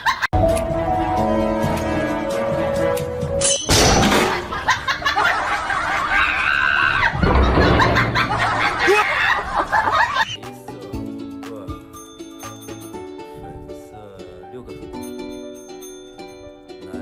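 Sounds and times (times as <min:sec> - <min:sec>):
background music: 0:00.4 - 0:06.0, 0:07.9 - 0:17.0.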